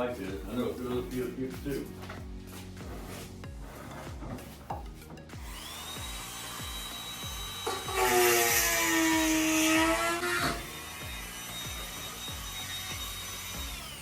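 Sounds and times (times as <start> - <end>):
rotary tool grinding wood: 0.0 - 14.0.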